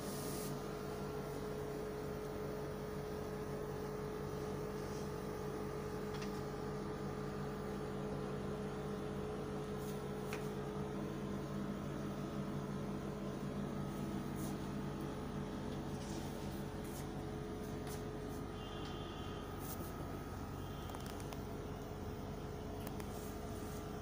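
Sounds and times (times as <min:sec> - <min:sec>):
low mechanical hum with tone: 0:00.0 - 0:24.0.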